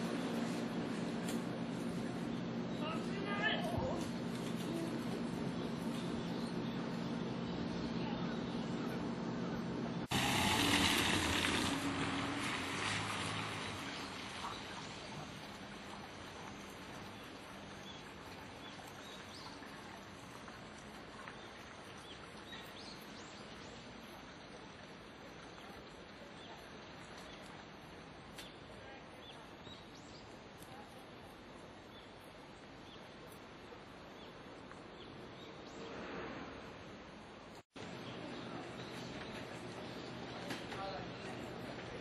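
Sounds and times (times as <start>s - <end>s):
outdoor background hiss: 0.0s - 42.0s.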